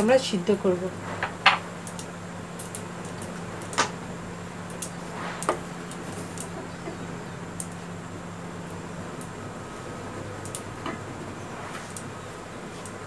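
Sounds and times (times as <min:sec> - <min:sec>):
steady low hum and hiss: 0:00.0 - 0:13.0.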